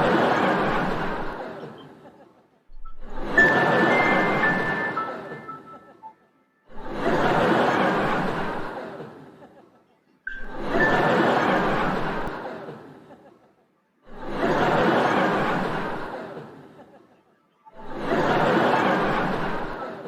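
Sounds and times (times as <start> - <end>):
group of people laughing: 0.0 - 20.0.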